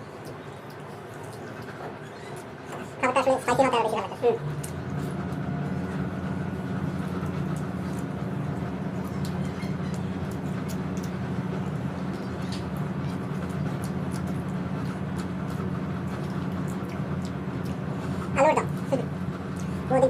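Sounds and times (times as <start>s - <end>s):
faint eating clicks and smacks: 0.0s - 20.0s
low machinery hum: 0.0s - 20.0s.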